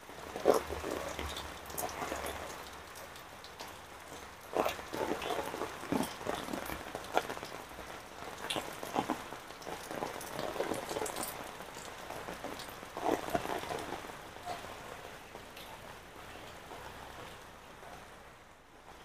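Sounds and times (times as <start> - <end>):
heavy rain on pavement: 0.0 - 19.0.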